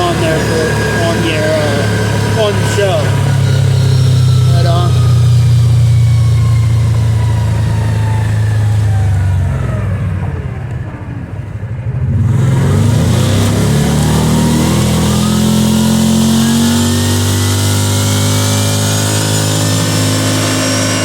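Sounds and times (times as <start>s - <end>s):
atv engine accelerating: 0.0s - 21.0s.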